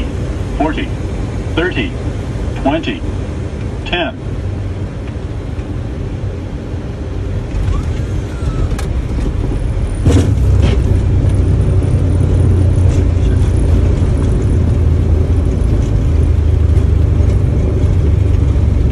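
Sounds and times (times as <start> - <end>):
engines and wheels rumbling on runway: 0.0 - 18.9.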